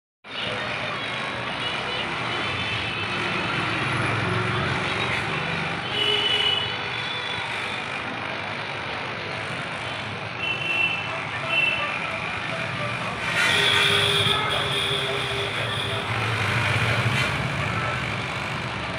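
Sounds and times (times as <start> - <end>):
street traffic: 0.2 - 18.9.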